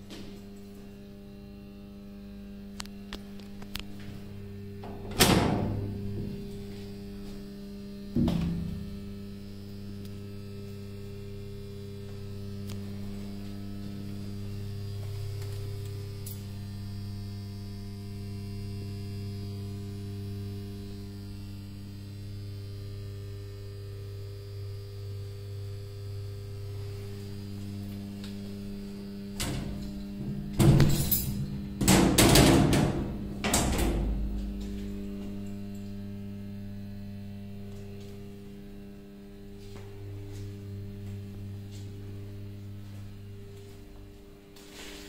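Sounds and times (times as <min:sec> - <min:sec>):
electrical mains hum: 0:00.0 - 0:45.0.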